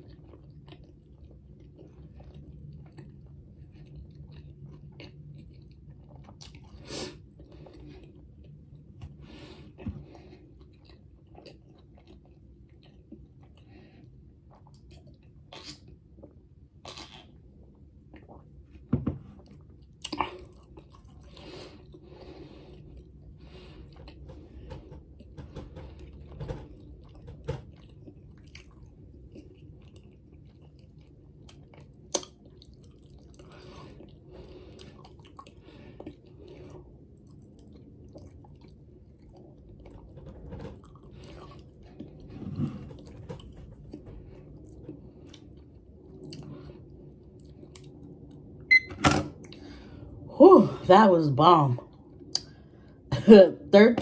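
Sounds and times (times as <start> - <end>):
person chewing: 0.0 - 18.6, 19.4 - 48.5.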